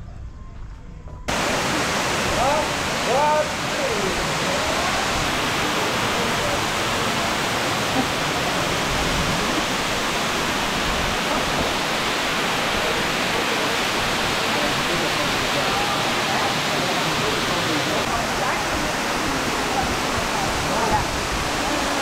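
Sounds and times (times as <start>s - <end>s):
waterfall roaring: 1.3s - 22.0s.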